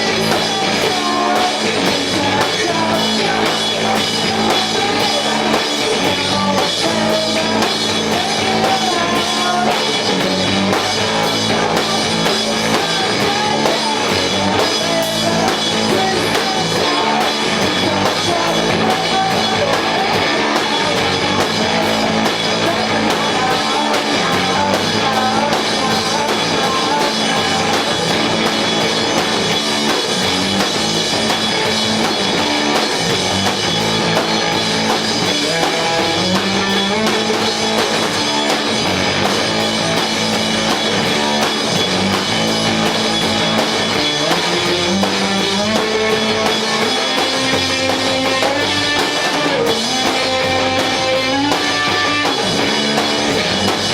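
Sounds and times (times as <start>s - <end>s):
bass guitar: 0.0s - 53.9s
drum kit: 0.0s - 53.9s
electric guitar: 0.0s - 53.9s.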